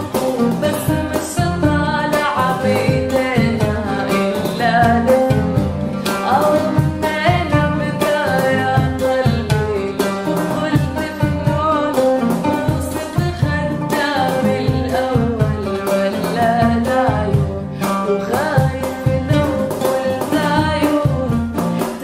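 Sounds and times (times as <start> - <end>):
song with melodic singing: 0.0 - 22.0.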